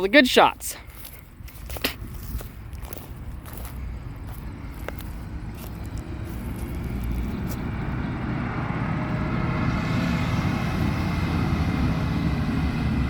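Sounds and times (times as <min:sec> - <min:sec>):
tyre and road noise: 0:00.0 - 0:13.0
diesel tractor engine driving past: 0:02.2 - 0:13.0.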